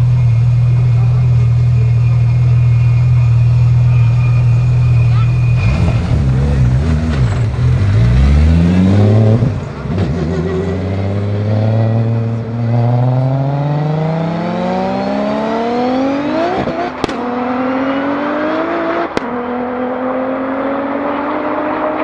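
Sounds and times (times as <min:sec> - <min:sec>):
turbocharged engine accelerating: 0:00.0 - 0:22.0.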